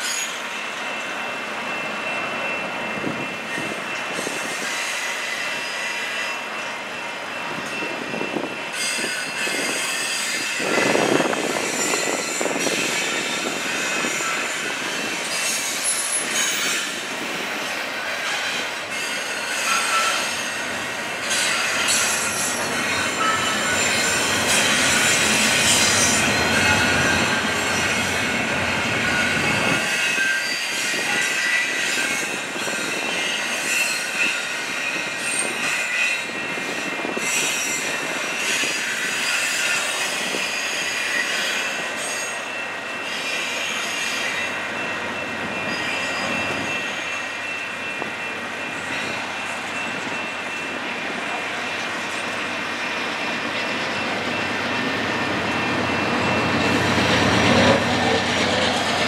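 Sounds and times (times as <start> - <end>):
freight train rumbling: 0.0 - 59.0
wheels squealing on rails: 0.0 - 59.0.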